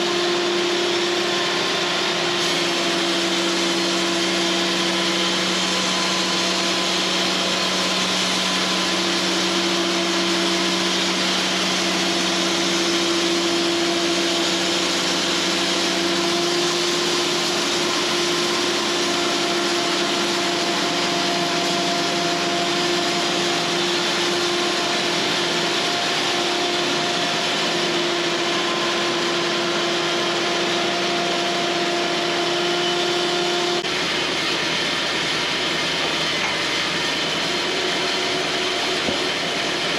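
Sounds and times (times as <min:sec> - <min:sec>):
bandsaw cutting wood: 0:00.0 - 0:39.9.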